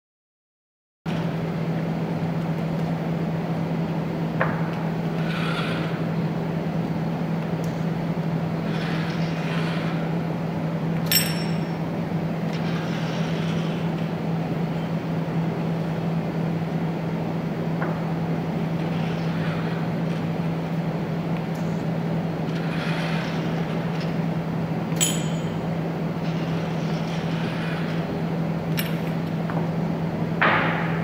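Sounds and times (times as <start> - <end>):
low machine hum: 1.1 - 31.0.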